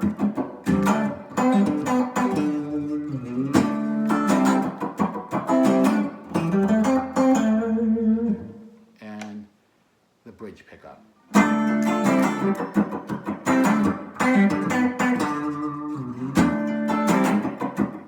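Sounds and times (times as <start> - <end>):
clean electric guitar chords: 0.0 - 8.8, 11.4 - 17.6.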